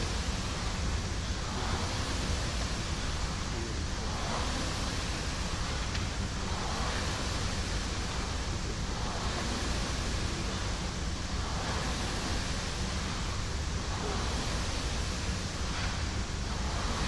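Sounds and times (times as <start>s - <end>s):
rowing machine flywheel fan whooshing: 0.0s - 17.0s.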